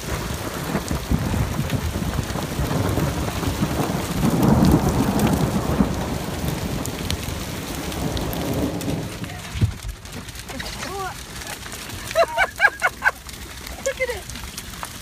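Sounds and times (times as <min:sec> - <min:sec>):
hail and heavy rain: 0:00.0 - 0:15.0.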